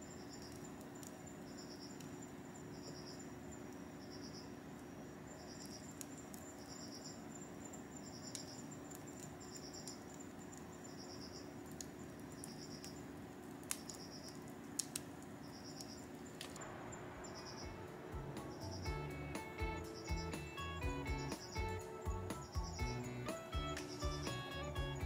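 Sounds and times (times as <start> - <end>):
cricket chirping: 0.0 - 13.2, 13.8 - 14.5, 15.3 - 25.0
wood fire popping and crackling: 0.0 - 25.0.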